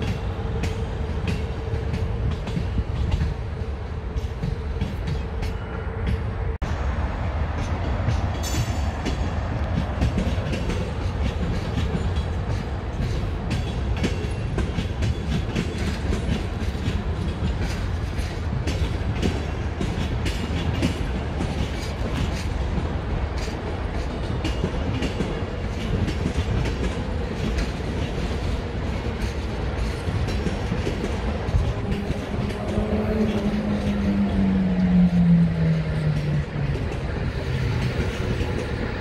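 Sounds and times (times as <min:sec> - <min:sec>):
wheels clicking over rail joints: 0:00.0 - 0:06.3, 0:07.6 - 0:39.0
coaches rumbling on tracks: 0:00.0 - 0:39.0.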